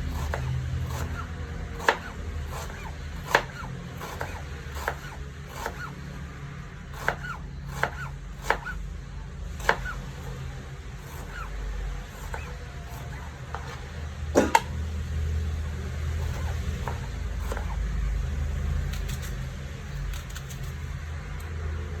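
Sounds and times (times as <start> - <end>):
knife slicing onions: 0.0 - 6.0, 6.9 - 8.8, 9.6 - 14.8, 16.1 - 21.0.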